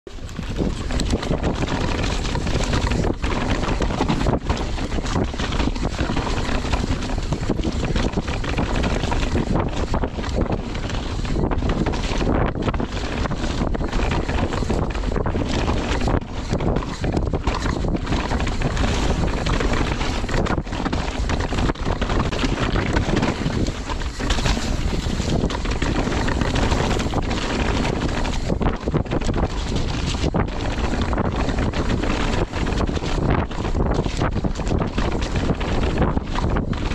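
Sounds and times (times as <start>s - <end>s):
bike tyres rumbling on dirt trail: 0.1s - 36.9s
wind rushing over microphone: 0.1s - 36.9s.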